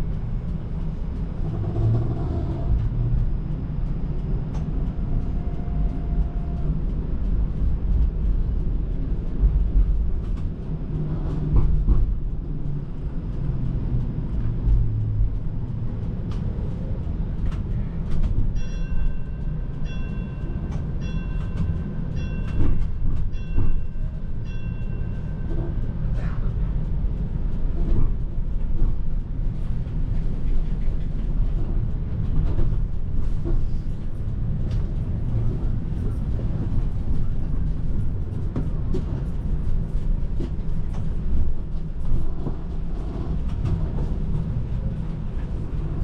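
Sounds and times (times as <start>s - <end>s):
streetcar rumbling on rails: 0.0s - 46.0s
track knocks and clacks: 0.0s - 46.0s.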